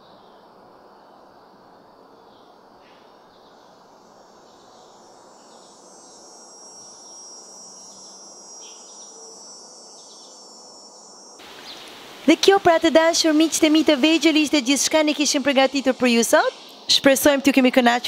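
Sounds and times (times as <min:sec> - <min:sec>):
background noise: 0:00.0 - 0:18.0
insects buzzing: 0:00.0 - 0:18.0.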